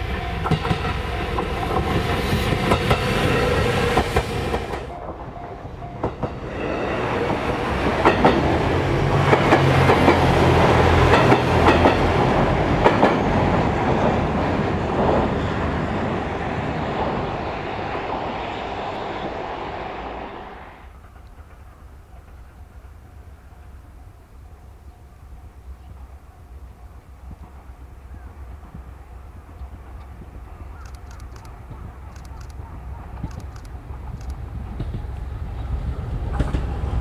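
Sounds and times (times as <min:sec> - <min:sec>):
diesel train engine droning: 0:00.0 - 0:24.7, 0:26.5 - 0:37.0
train wheels clicking on rail joints: 0:00.0 - 0:37.0.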